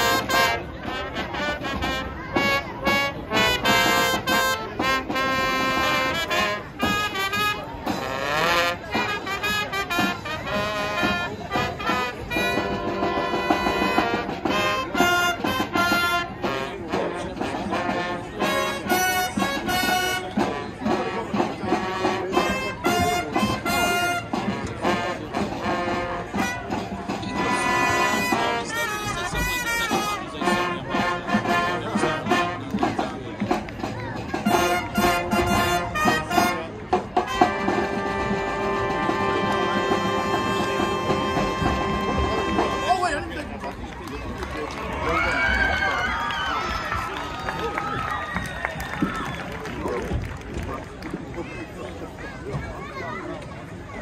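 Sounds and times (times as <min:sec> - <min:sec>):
marching band playing: 0:00.0 - 0:51.6.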